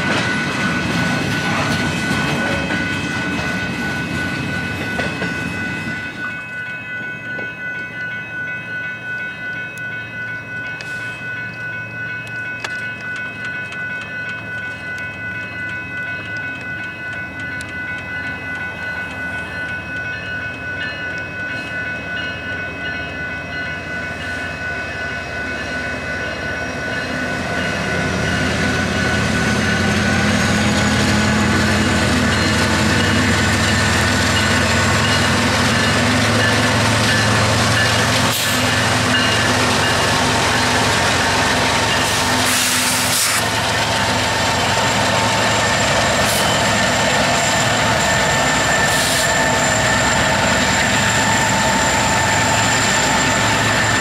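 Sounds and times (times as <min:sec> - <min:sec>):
locomotive engines rumbling: 0:00.0 - 0:54.0.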